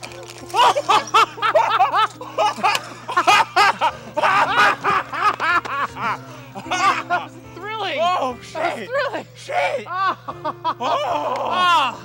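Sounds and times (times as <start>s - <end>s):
men laughing excitedly: 0.5s - 12.0s.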